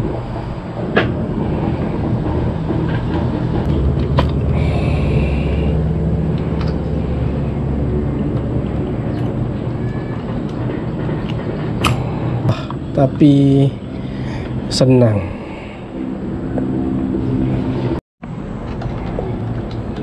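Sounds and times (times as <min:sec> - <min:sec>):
low mechanical rumble: 0:00.0 - 0:20.0.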